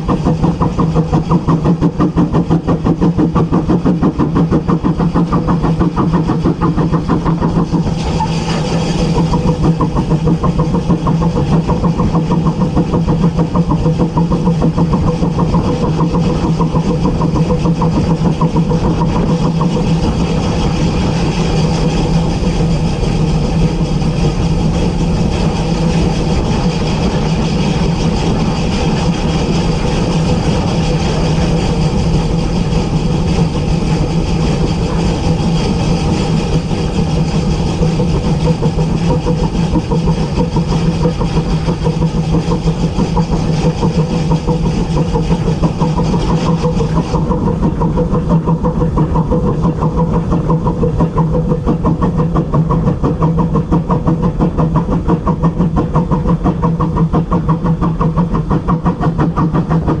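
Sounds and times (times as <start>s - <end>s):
locomotive engine drone: 0.0s - 60.0s.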